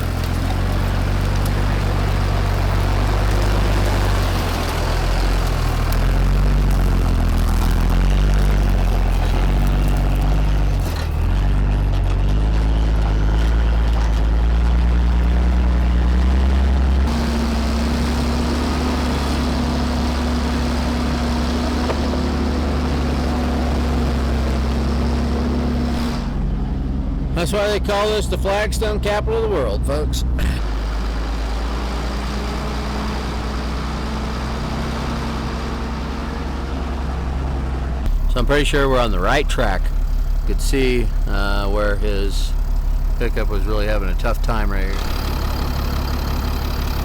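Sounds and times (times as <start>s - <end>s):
diesel truck engine under load: 0.0s - 47.0s.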